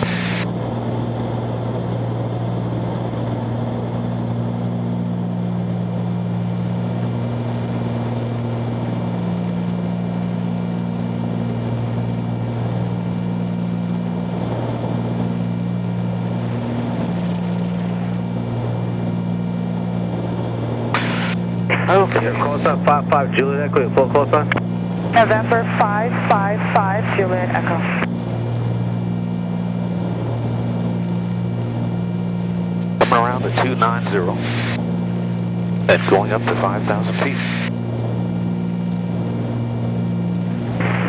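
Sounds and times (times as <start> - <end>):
propeller plane engines droning: 0.0 - 41.0.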